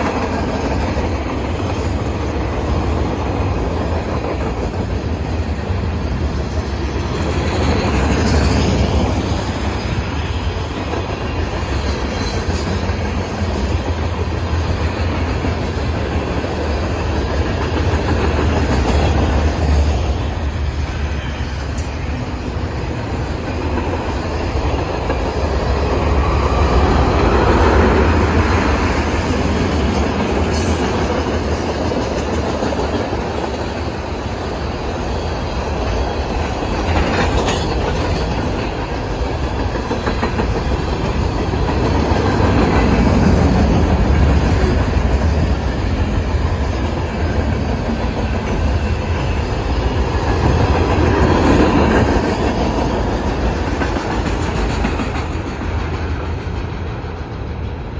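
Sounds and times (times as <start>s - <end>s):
train wheels clickety-clack on rails: 0.0s - 57.9s.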